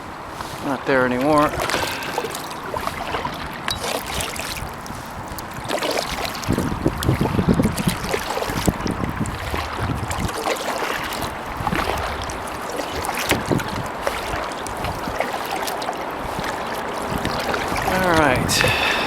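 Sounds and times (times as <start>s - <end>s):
kayak paddle splashing: 0.0s - 19.0s
wind buffeting microphone: 0.0s - 19.0s.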